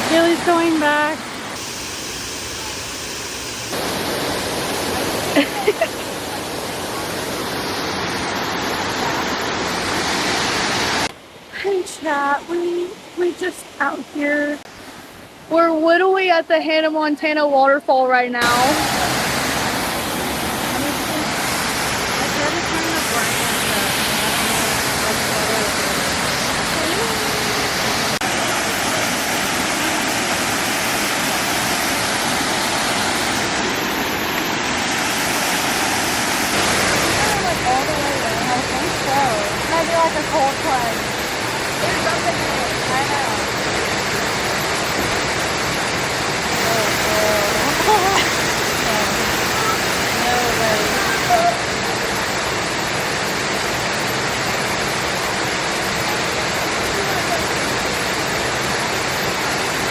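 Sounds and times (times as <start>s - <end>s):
waterfall rushing: 0.0s - 11.1s, 18.4s - 59.9s.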